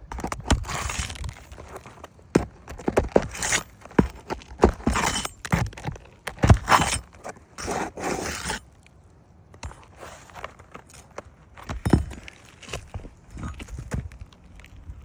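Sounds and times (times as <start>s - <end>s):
footsteps on shingle roof: 0.0s - 8.1s, 9.6s - 15.0s
knocks and scrapes on shingle roof: 0.0s - 8.8s, 9.6s - 15.0s.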